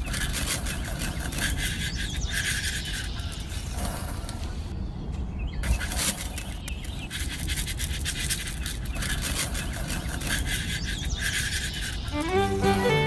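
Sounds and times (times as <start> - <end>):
scraping and clicking: 0.0 - 4.5, 5.6 - 12.3.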